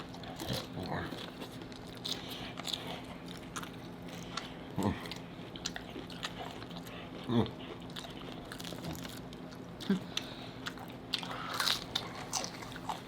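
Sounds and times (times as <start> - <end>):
chewing crunchy taco shells: 0.0 - 13.0.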